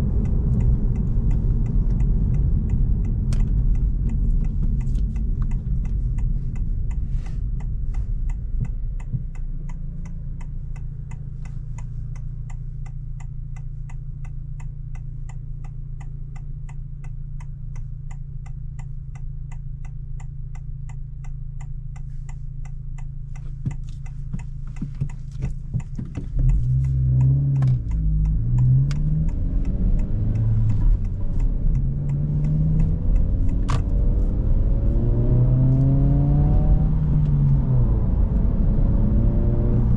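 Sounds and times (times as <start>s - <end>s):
car engine idling and accelerating: 0.0s - 39.9s
turn signal ticking: 0.0s - 39.9s.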